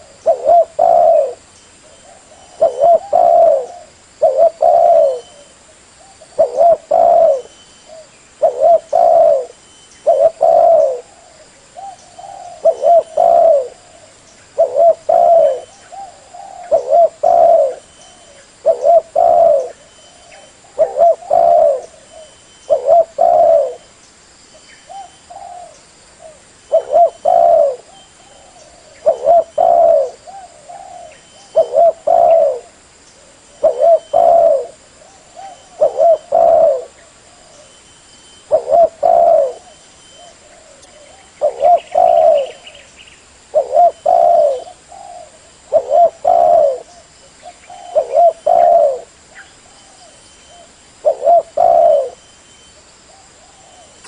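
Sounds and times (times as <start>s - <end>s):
dove cooing: 0.0s - 23.9s, 24.9s - 37.8s, 38.4s - 42.9s, 43.5s - 54.0s.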